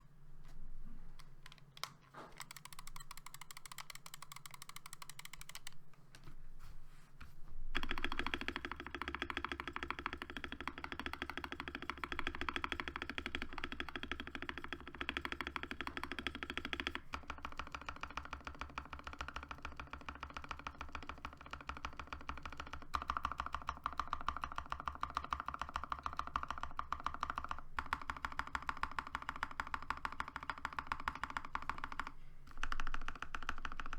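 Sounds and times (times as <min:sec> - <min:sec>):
fast typing on mechanical keyboard: 0:01.4 - 0:05.8, 0:07.8 - 0:33.9.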